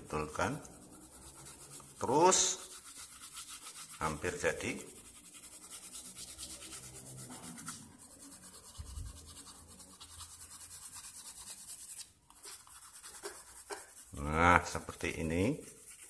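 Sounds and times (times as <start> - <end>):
pencil scratching on paper: 0.0 - 16.0.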